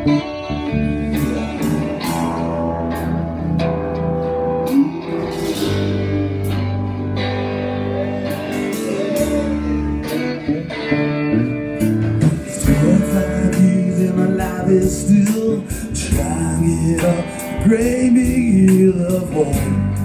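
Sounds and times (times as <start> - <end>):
bass guitar: 0.0 - 20.0
electric guitar: 0.0 - 20.0.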